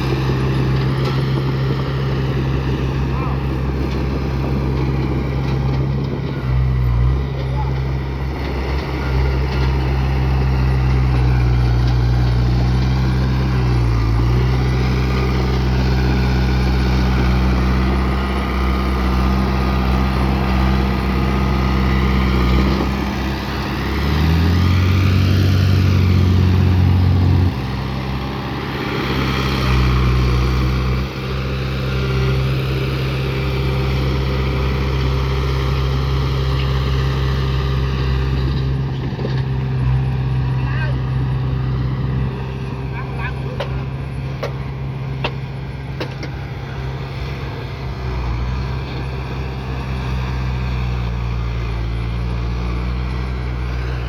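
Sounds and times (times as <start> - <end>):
bulldozer diesel engine under load: 0.0 - 54.0.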